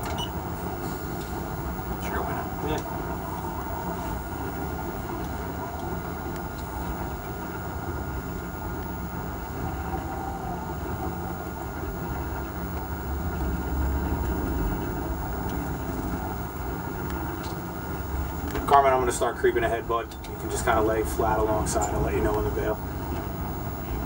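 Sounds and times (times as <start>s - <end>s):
diesel engines humming: 0.0s - 24.0s.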